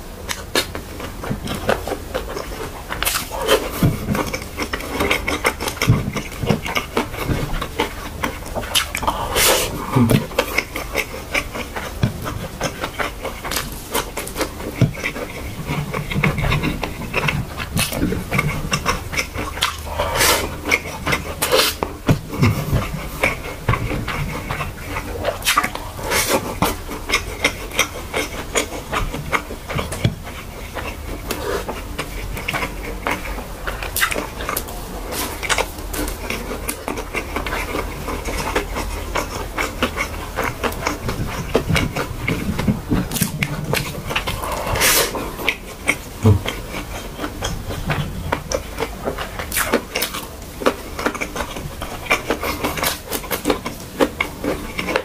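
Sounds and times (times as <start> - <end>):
steady low hum: 0.0 - 55.0
chewing and lip smacks: 0.2 - 55.0.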